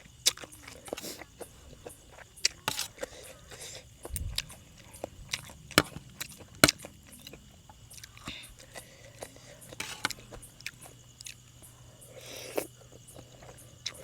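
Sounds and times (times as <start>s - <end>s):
crickets chirring: 0.0s - 14.0s
person chewing food: 0.0s - 14.0s.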